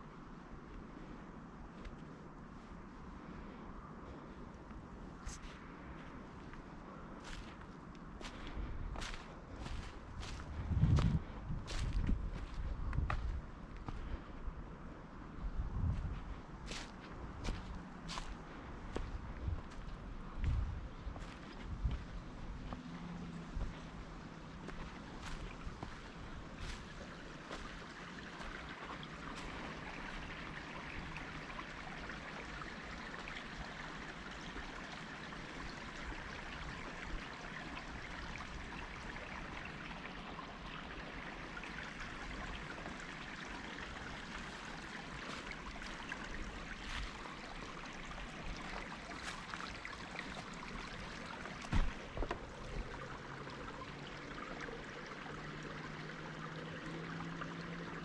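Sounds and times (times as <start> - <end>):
running water rushing: 5.3 - 14.2, 16.5 - 58.0.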